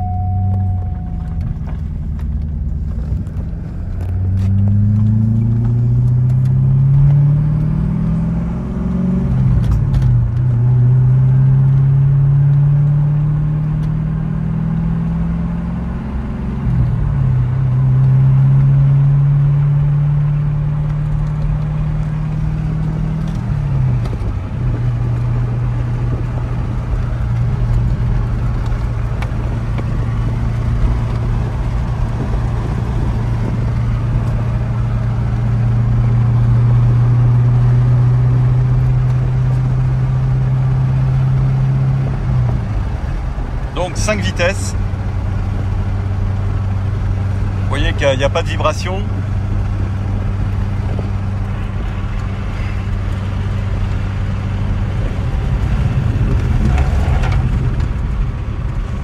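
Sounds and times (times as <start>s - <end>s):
car engine revving through gears: 0.0s - 59.0s.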